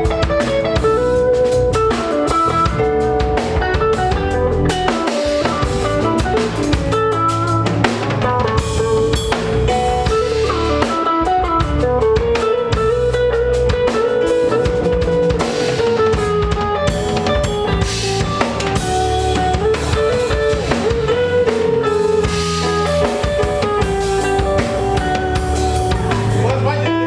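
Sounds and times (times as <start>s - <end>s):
bass and guitar: 0.0s - 27.0s
drum kit: 0.0s - 27.0s.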